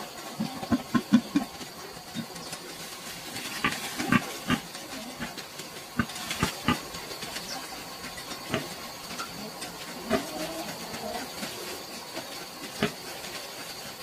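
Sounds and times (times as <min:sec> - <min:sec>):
pigs grunting and squeaking: 0:00.0 - 0:14.0
steady hiss: 0:00.0 - 0:14.0.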